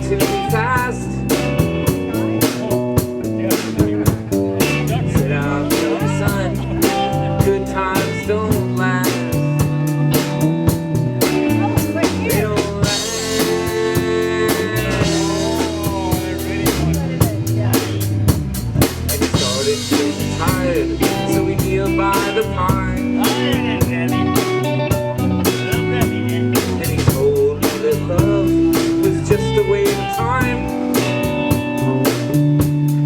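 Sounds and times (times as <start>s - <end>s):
lead guitar bending notes: 0.0s - 18.6s, 19.3s - 33.0s
rock band playing: 0.0s - 33.0s.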